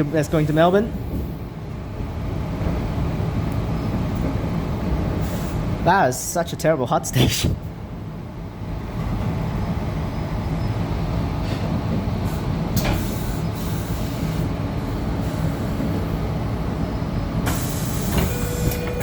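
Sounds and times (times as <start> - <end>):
electric train rumble and hum: 0.0 - 19.0.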